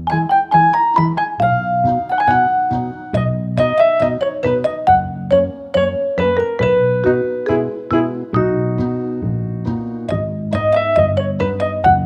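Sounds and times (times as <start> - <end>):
keyboard melody: 0.0 - 12.0
low bass notes: 0.0 - 12.0.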